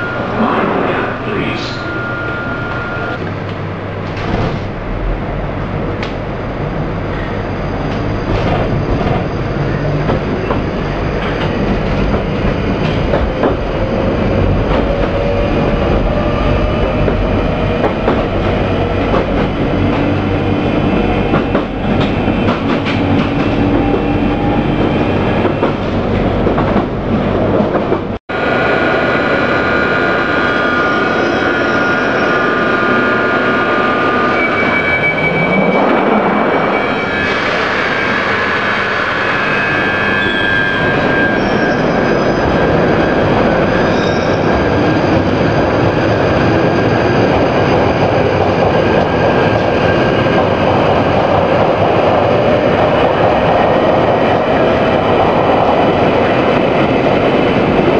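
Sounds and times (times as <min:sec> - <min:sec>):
rising train motor whine: 0:00.0 - 0:57.9
train rumbling with wheel clatter: 0:00.0 - 0:57.9.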